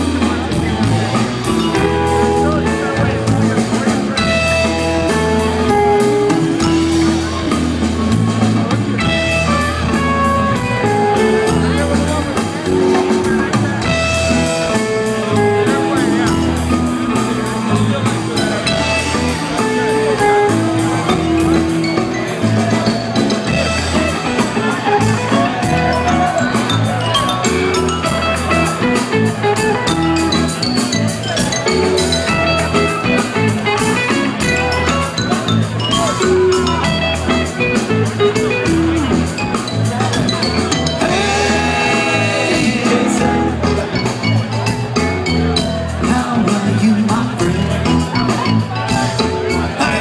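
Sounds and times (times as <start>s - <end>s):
drums steady beat: 0.0s - 50.0s
rock band playing live: 0.0s - 50.0s.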